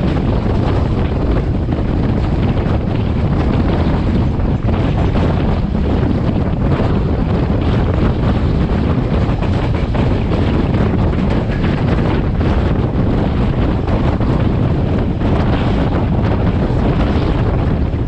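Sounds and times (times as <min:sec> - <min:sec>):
train running noise: 0:00.0 - 0:18.0
wind buffeting microphone: 0:00.0 - 0:18.0.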